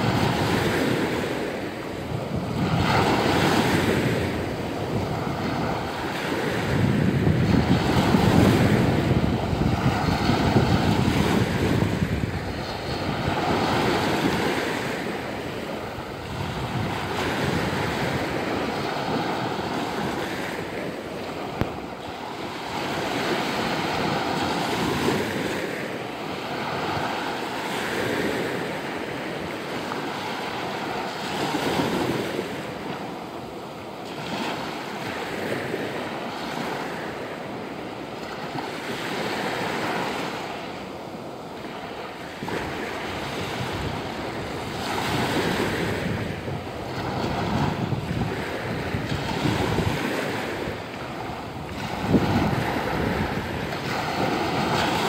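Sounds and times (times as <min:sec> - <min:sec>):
waves breaking on sandy shore: 0:00.0 - 0:55.0.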